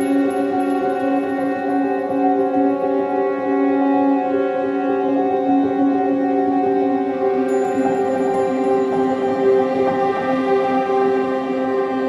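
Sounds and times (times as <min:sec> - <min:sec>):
slow ambient synth music: 0:00.0 - 0:12.0.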